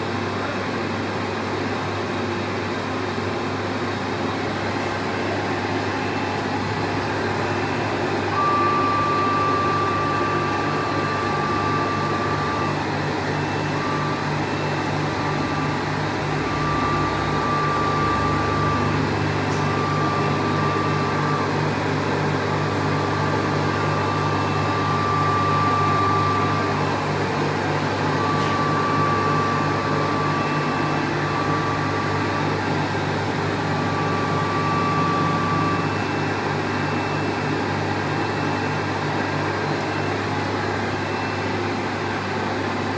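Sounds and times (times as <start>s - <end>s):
high-pitched machine whine: 3.2s - 42.9s.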